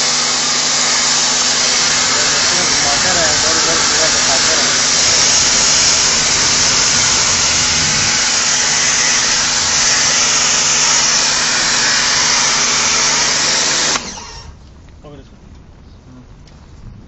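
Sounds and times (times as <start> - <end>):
cleaning sprayer spraying hiss: 0.0 - 14.4
low motor hum: 0.9 - 15.0.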